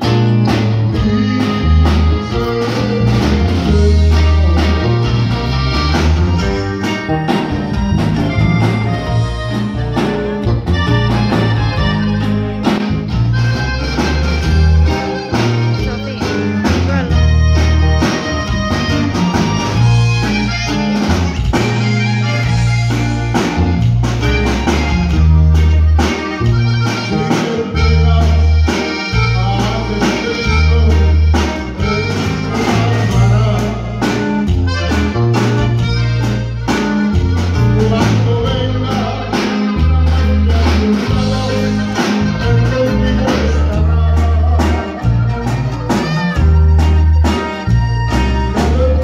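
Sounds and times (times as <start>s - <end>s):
accordion melody: 0.0s - 49.0s
drum kit beat: 0.0s - 49.0s
electric bass: 0.0s - 49.0s
guitar: 0.0s - 49.0s.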